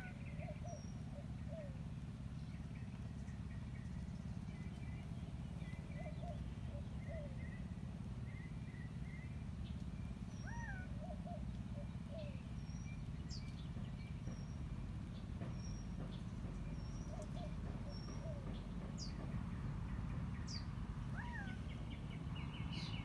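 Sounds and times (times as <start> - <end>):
birds chirping: 0.0 - 23.0
steady low rumble: 0.0 - 23.0.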